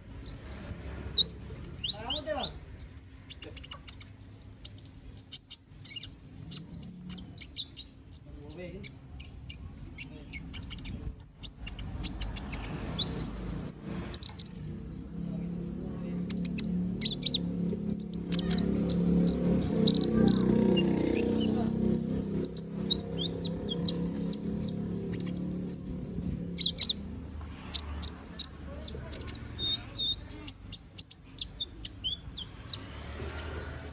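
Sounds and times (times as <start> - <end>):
bird singing high chirps: 0.0 - 33.9.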